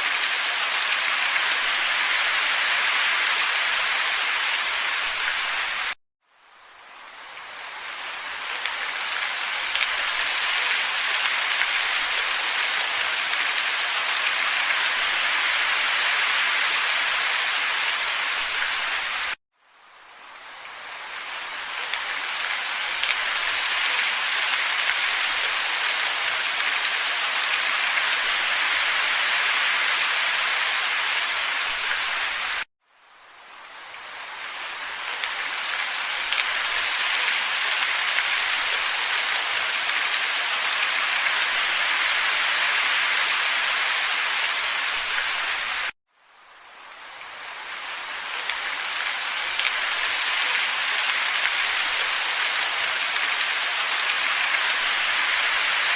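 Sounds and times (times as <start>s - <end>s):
wind and snow hiss: 0.0s - 55.9s.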